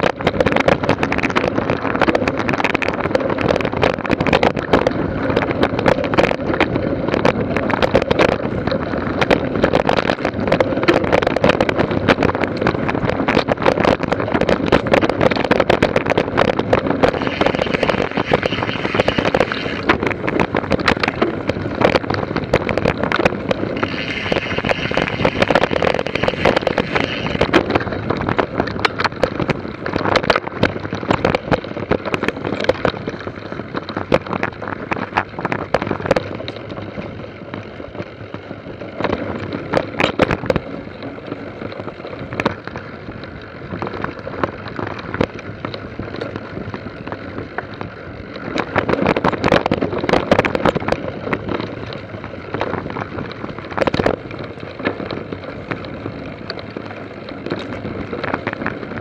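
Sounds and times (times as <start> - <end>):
mountain bike rattling over trail: 0.0 - 59.0.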